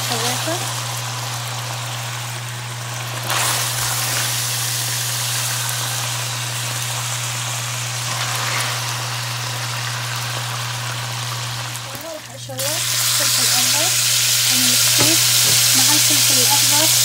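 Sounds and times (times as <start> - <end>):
meat sizzling in frying pan: 0.0 - 17.0.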